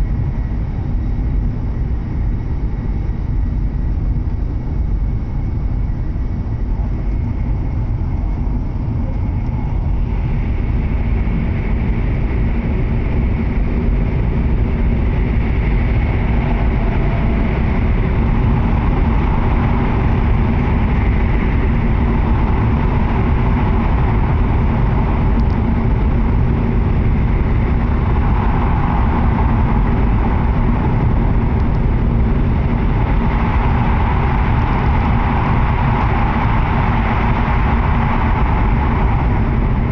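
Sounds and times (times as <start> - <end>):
train cabin low rumble: 0.0 - 39.9.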